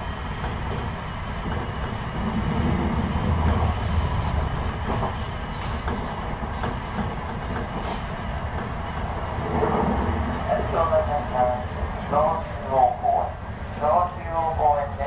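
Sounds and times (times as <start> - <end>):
rail clicks: 0.0 - 15.0
train wheels rumbling: 0.0 - 15.0.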